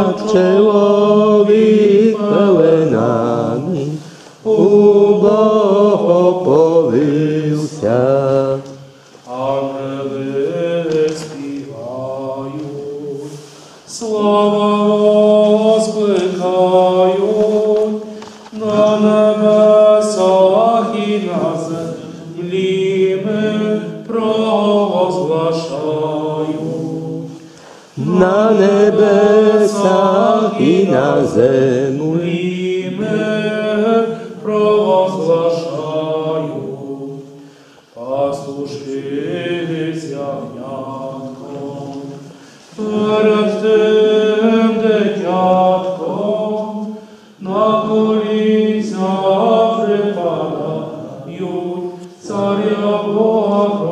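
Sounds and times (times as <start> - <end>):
group singing a carol unaccompanied: 0.0 - 53.9.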